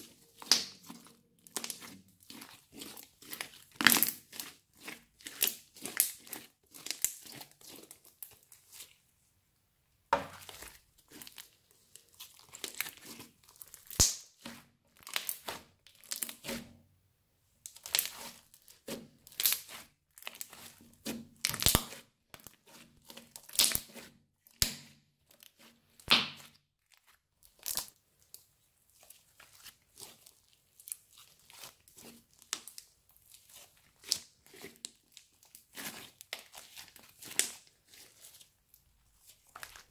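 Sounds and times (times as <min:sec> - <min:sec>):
crunchy slime crackling: 0:00.0 - 0:09.0, 0:10.2 - 0:16.6, 0:17.6 - 0:39.9.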